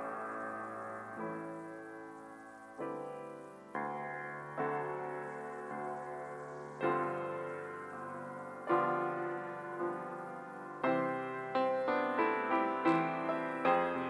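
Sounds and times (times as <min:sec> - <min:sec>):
piano playing soft chords: 0:00.0 - 0:14.0.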